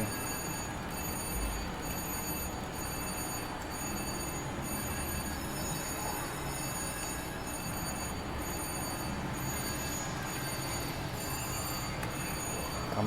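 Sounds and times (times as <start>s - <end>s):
slot machines chiming and humming: 0.0s - 13.0s.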